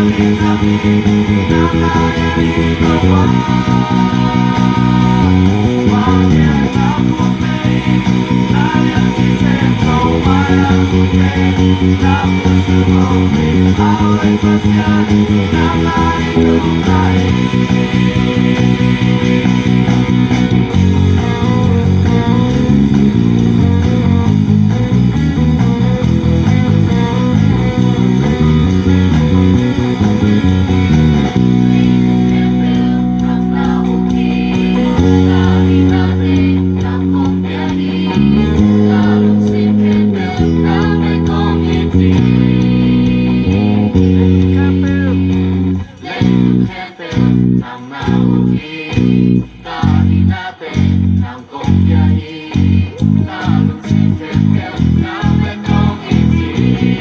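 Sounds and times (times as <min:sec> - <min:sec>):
band backing track: 0:00.0 - 0:57.0
electric bass guitar: 0:00.0 - 0:57.0.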